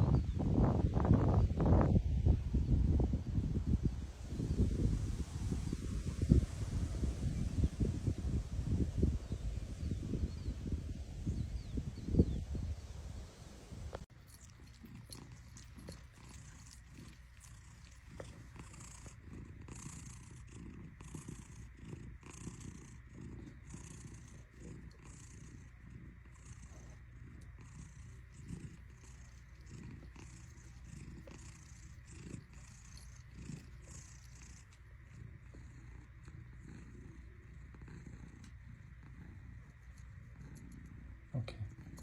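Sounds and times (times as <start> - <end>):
cat purring: 0.0 - 42.0.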